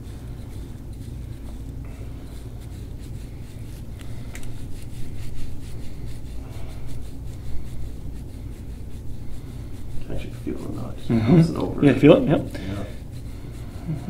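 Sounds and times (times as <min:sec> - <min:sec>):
steady low hum: 0:00.0 - 0:14.0
tool scraping over skin: 0:00.0 - 0:14.0.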